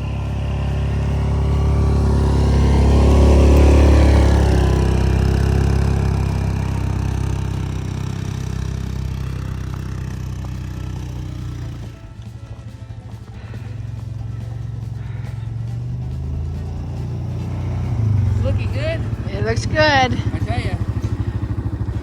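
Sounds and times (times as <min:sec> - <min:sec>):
snowplow engine running: 0:00.0 - 0:22.0.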